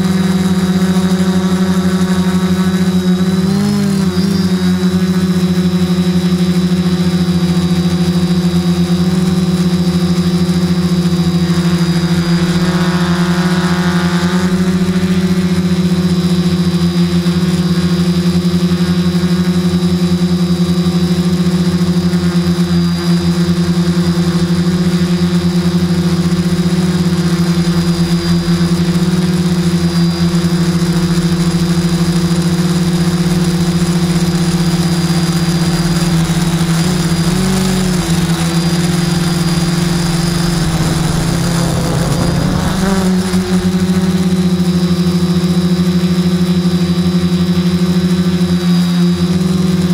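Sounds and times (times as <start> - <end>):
drone motors humming: 0.0 - 49.9.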